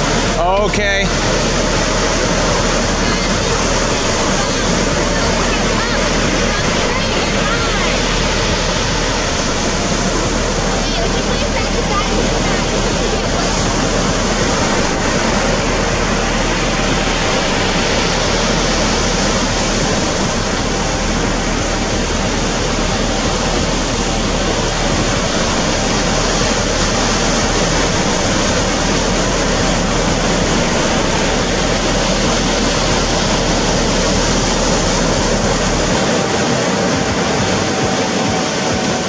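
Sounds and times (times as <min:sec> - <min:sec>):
faint steady whine: 0:00.0 - 0:37.7.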